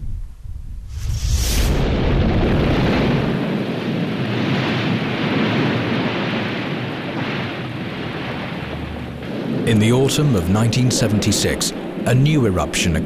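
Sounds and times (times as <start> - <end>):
volcanic eruption rumble with crackling hiss: 0.0 - 13.0.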